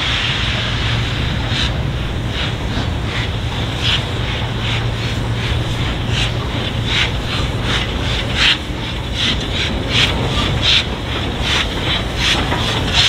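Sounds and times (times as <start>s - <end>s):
low rumble: 0.0s - 13.0s
steam engine puffing: 0.0s - 13.0s
wind buffeting microphone: 0.0s - 13.0s.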